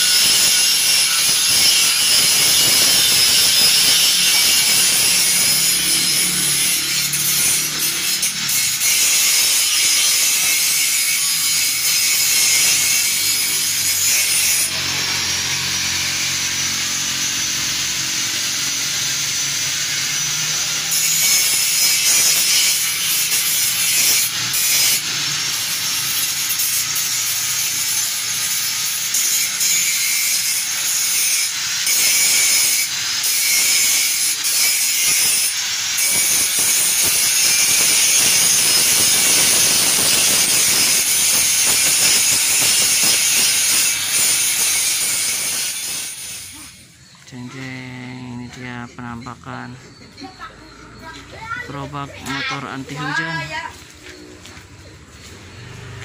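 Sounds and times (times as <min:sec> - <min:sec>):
harsh hissing and rasping on metal: 0:00.0 - 0:51.7.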